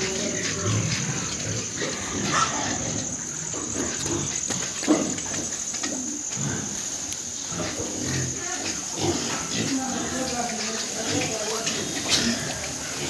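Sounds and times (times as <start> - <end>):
high-pitched hiss: 0.0 - 13.0
pigs grunting: 0.0 - 13.0.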